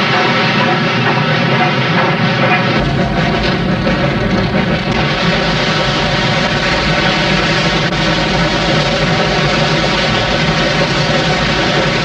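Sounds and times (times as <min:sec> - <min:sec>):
steam locomotive roar: 0:00.0 - 0:12.0
deep rumble: 0:01.9 - 0:12.0.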